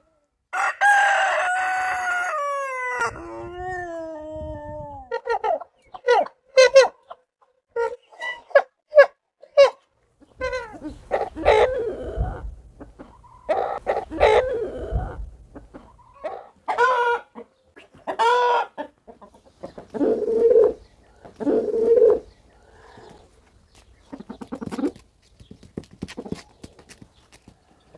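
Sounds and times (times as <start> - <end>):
roosters clucking and calling: 0.0 - 27.9.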